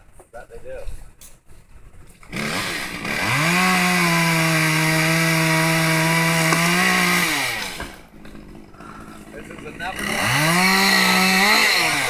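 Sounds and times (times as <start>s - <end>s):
chainsaw revving: 2.2s - 12.0s.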